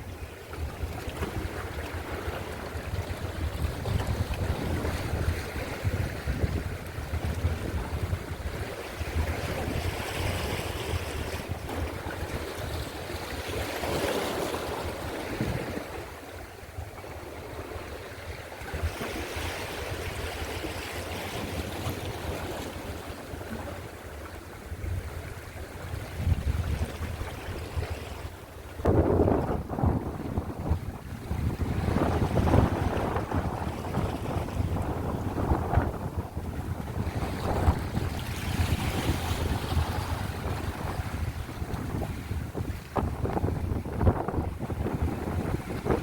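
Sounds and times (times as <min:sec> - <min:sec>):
wind buffeting microphone: 0:00.0 - 0:16.1, 0:24.7 - 0:46.0
waves washing on shore: 0:00.0 - 0:46.0.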